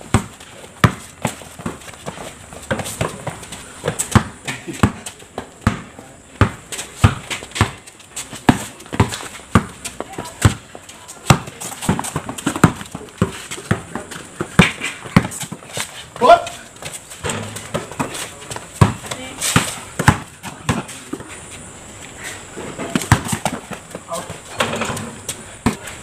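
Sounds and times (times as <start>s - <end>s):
basketball bouncing on concrete: 0.0s - 21.3s, 22.6s - 26.0s
sneaker footsteps: 0.0s - 26.0s.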